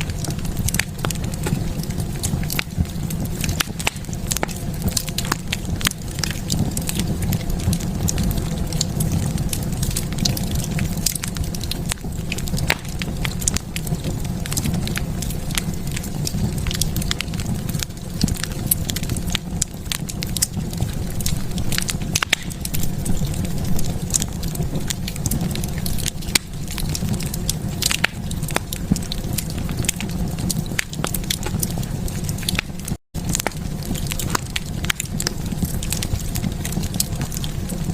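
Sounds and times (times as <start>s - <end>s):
fire crackling and popping: 0.0s - 37.9s
wood fire rumbling: 0.0s - 37.9s.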